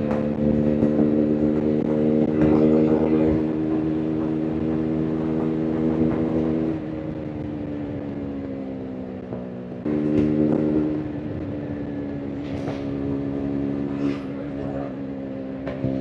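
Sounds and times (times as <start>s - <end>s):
motorcycle engine and exhaust: 0.0s - 16.0s.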